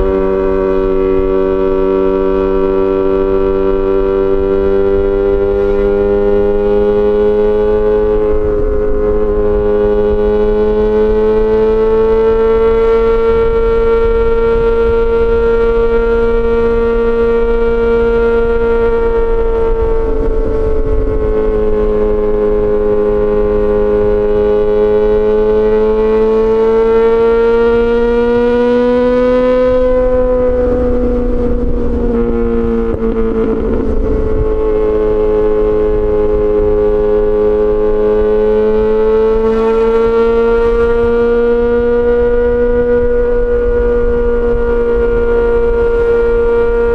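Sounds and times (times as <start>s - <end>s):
motorcycle engine at high revs: 0.0s - 46.9s
wind and road noise: 0.0s - 46.9s.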